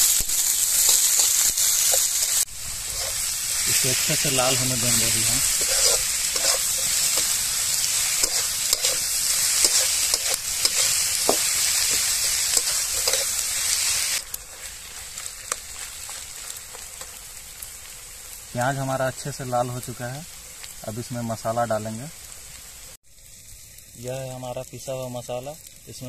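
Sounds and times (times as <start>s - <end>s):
onion and garlic sizzling in oil: 0.0s - 26.0s.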